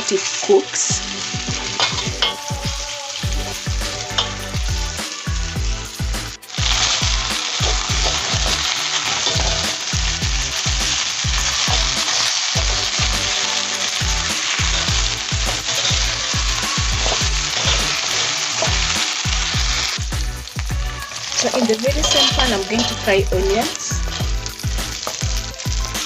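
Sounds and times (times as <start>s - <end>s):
meat sizzling in oil: 0.0s - 26.0s.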